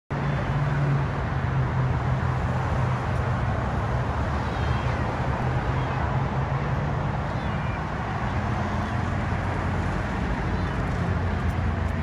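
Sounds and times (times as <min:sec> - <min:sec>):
highway traffic: 0:00.1 - 0:12.0.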